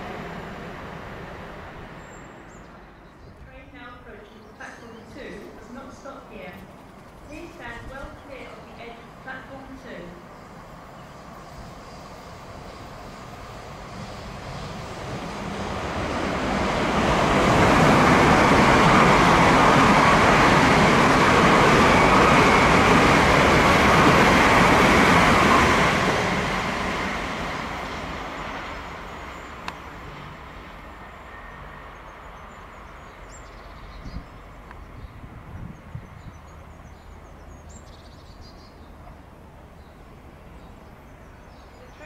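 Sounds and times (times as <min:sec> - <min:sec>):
passenger train passing: 0:00.0 - 0:42.0.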